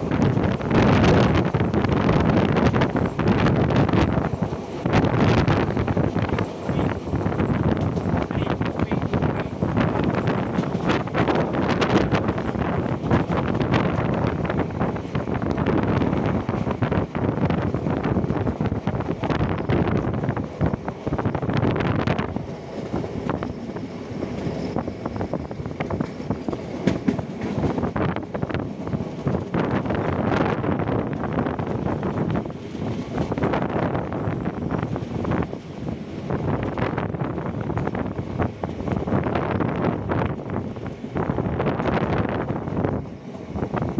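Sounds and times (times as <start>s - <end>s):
train coach rumble: 0.0s - 43.9s
wind on microphone: 0.0s - 43.9s.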